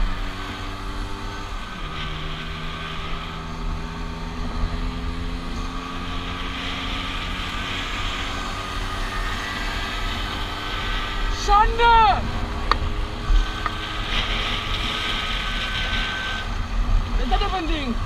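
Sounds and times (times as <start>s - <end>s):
other scooters riding: 0.0s - 18.0s
wind rumble on microphone: 0.0s - 18.0s.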